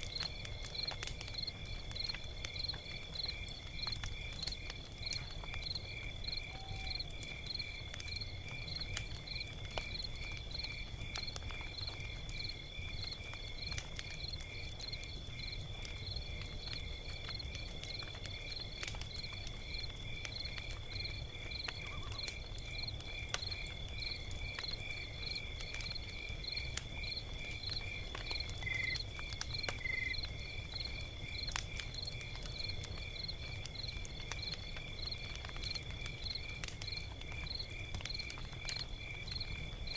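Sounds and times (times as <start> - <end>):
insects chirping: 0.0 - 39.9
log fire crackling: 0.0 - 39.9.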